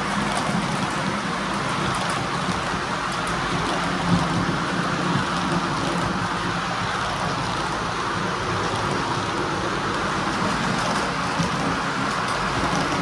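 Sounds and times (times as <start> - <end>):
model train wheels rattling on rails: 0.0 - 13.0.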